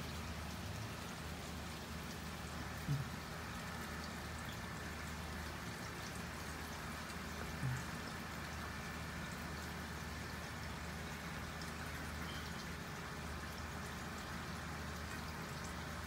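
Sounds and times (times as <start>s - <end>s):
steady rain patter: 0.0s - 16.0s.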